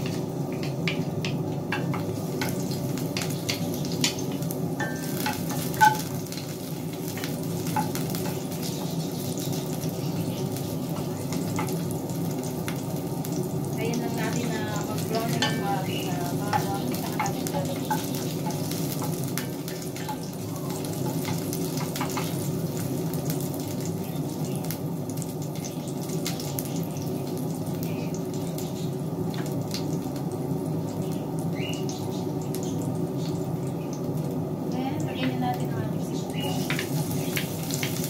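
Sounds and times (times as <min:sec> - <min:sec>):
garlic sizzling in a pan: 0:00.0 - 0:38.0.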